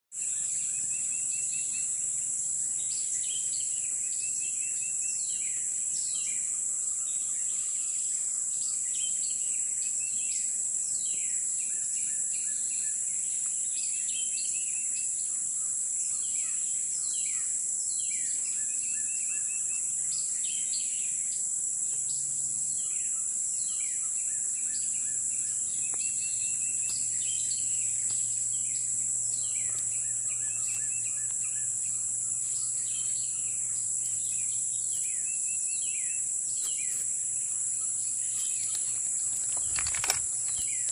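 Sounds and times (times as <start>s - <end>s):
birds chirping and trilling: 0.1s - 40.9s
insect drone: 0.1s - 40.9s.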